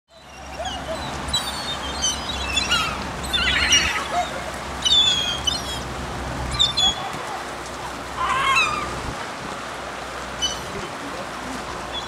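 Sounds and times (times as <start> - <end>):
seagulls calling: 0.1 - 9.2, 10.3 - 12.0.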